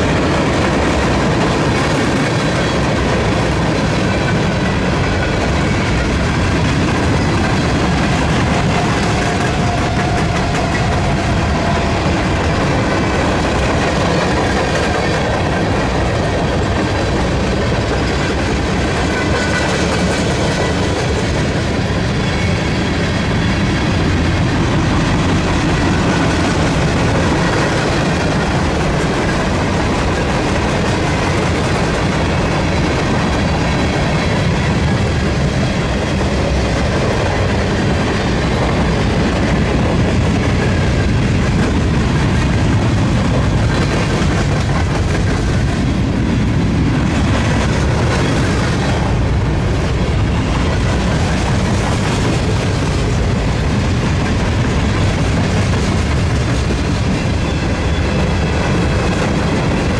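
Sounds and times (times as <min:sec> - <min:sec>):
freight train rumbling past: 0:00.0 - 0:59.9
steel wheels clattering on rails: 0:00.0 - 0:59.9.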